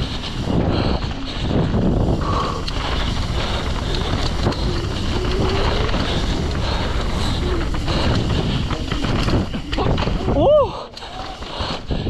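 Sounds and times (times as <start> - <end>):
bike clattering over bumps: 0.0 - 12.0
bike tyre noise on trail: 0.0 - 12.0
wind rushing over microphone: 0.0 - 12.0.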